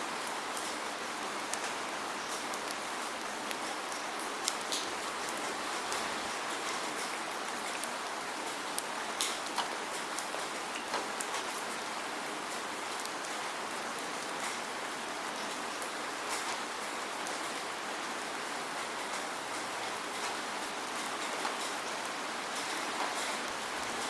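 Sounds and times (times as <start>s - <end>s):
steady rain hiss: 0.0s - 24.0s
raindrops ticking on a surface: 0.1s - 24.0s.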